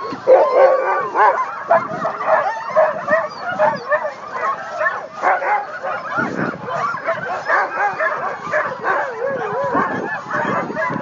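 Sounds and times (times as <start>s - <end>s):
sled dogs barking and yelping: 0.0s - 11.0s.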